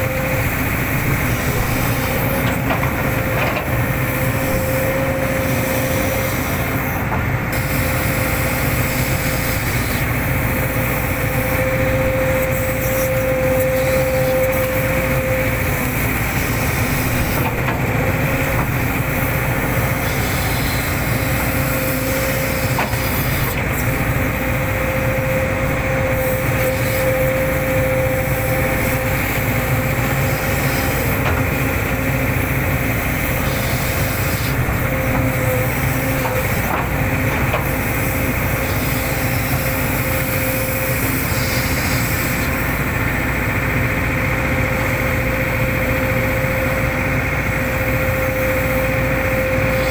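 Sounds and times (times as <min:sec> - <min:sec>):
excavator diesel engine running: 0:00.0 - 0:49.9
steady whine: 0:00.0 - 0:49.9.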